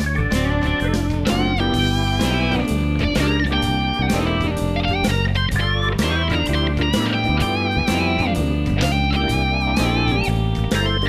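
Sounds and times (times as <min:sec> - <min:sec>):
electric guitar music: 0:00.0 - 0:11.0.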